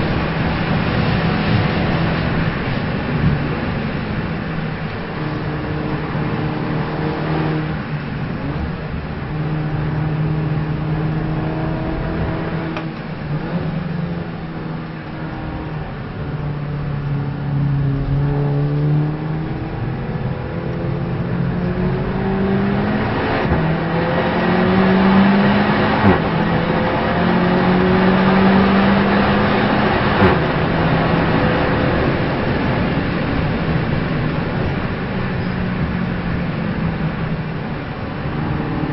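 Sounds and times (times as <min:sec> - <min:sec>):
race car engine accelerating: 0:00.0 - 0:38.9
road and wind noise: 0:00.0 - 0:38.9.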